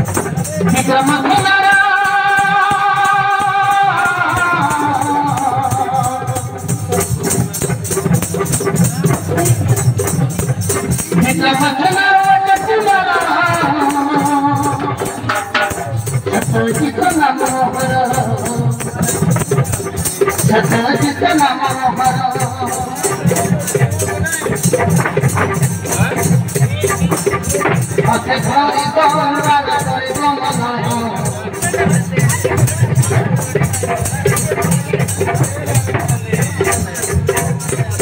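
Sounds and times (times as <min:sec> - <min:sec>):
low percussion: 0:00.0 - 0:38.0
shaken rattle rhythm: 0:00.0 - 0:38.0.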